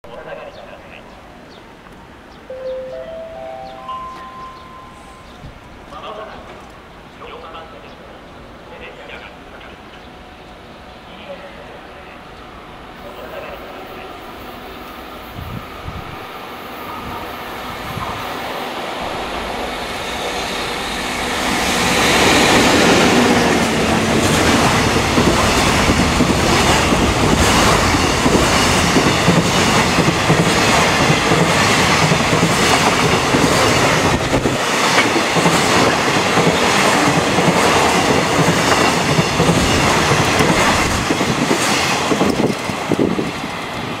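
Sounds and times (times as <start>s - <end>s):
freight train passing: 0.1s - 44.0s.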